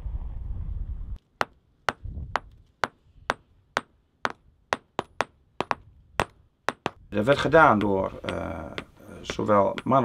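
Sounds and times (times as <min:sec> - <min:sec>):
hammers striking stones: 0:01.4 - 0:10.0.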